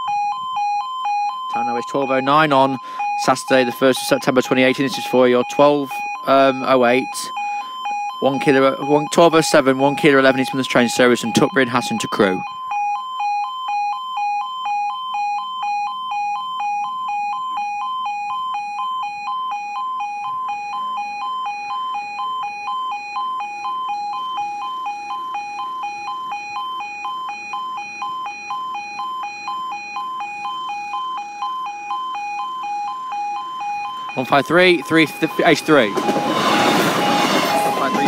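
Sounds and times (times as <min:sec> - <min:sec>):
two-tone level crossing alarm: 0:00.0 - 0:38.0.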